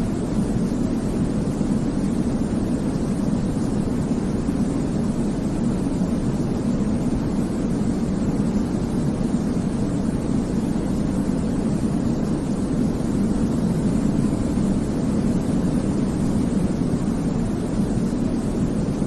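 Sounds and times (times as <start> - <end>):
low white noise rumble: 0.0 - 19.0.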